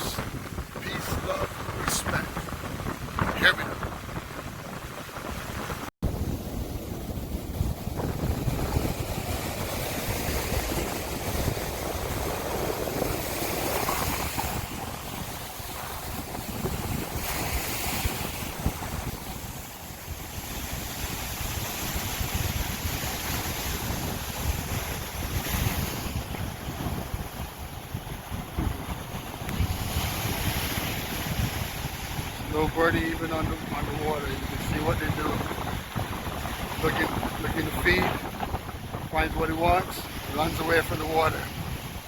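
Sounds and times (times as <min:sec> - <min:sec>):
ocean surf breaking: 0:00.0 - 0:42.0
wind buffeting microphone: 0:00.0 - 0:42.0.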